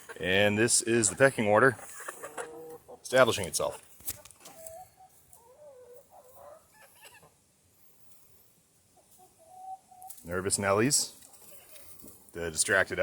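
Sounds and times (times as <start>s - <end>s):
chickens calling softly: 0.0s - 13.0s.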